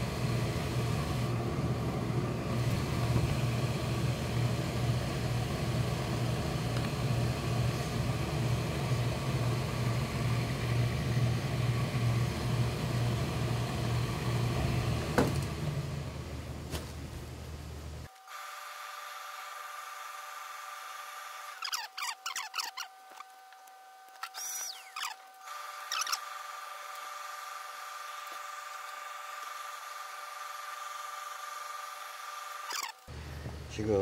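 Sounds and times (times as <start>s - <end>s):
electric motor hum: 0.0s - 34.0s.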